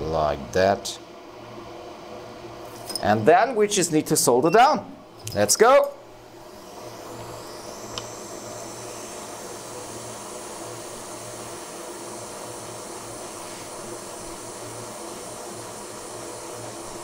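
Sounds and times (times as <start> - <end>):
hot air station hissing: 2.6 - 17.0.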